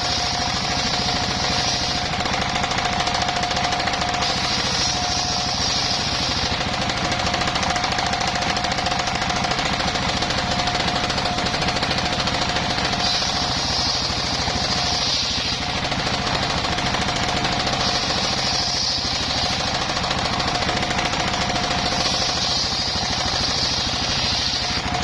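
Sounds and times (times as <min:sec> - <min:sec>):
circular saw engine running: 0:00.0 - 0:25.0
saw blade cutting timber: 0:00.0 - 0:25.0.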